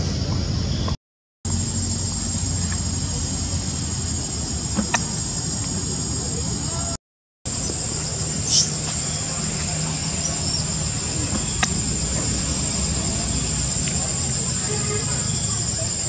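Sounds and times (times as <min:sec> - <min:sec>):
high-pitched insect drone: 0:01.5 - 0:16.0.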